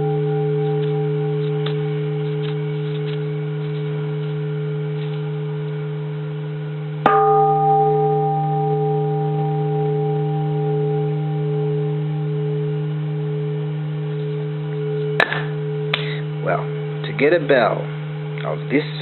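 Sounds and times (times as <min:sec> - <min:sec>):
temple bell ringing: 0:00.0 - 0:19.0.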